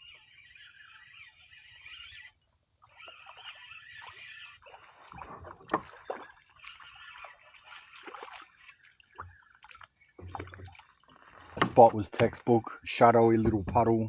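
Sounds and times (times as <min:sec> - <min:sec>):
water lapping against hull: 0:00.0 - 0:14.0.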